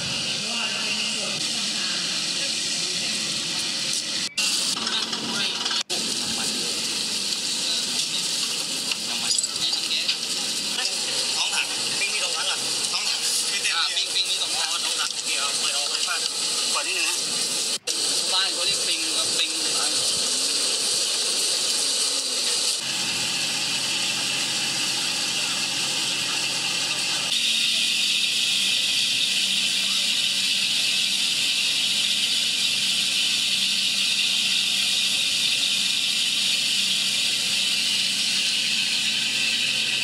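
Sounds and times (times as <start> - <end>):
steady loud hiss: 0.0 - 40.0.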